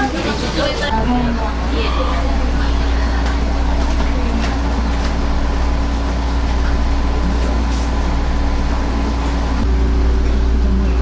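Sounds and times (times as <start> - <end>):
steady low rumble: 0.9 - 11.0.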